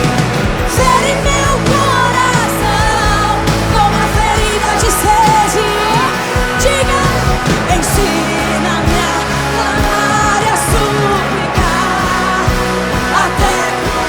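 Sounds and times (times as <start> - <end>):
singing voices: 0.0 - 14.0
steady drum beat: 0.0 - 14.0
worship band playing: 0.0 - 14.0.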